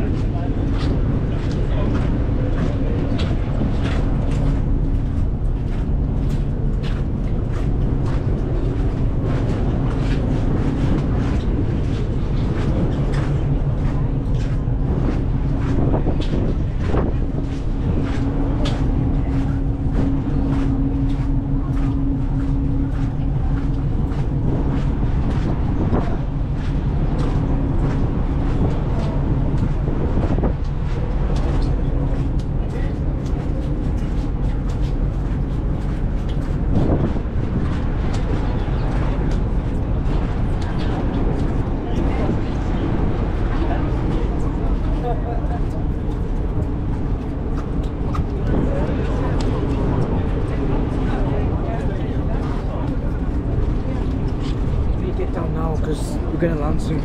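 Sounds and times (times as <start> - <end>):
ferry engines droning: 0.0 - 57.0.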